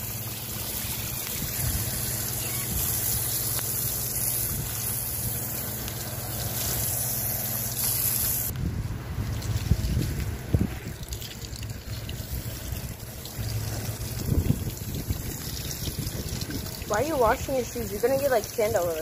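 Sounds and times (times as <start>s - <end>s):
water splashing on drain grate: 0.0s - 8.6s, 9.2s - 19.0s.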